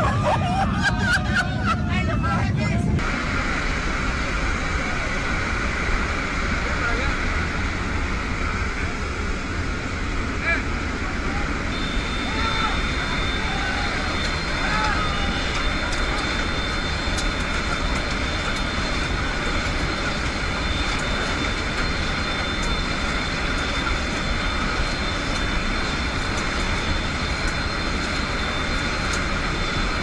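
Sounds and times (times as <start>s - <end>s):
aircraft engines: 0.0s - 30.0s.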